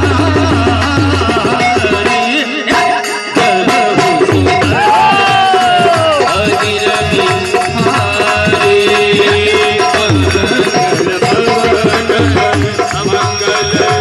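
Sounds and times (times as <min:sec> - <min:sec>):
hand drum rhythm: 0:00.0 - 0:14.0.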